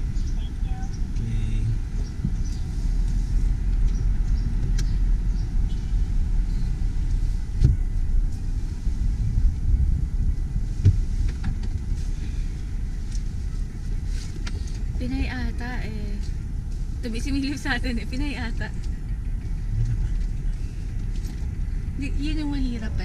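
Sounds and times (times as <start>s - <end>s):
car engine and tyres rumble: 0.0s - 23.0s.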